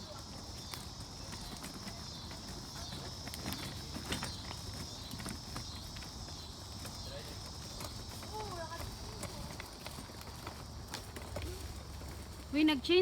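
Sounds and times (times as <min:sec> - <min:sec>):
footsteps walking outdoors: 0:00.0 - 0:13.0.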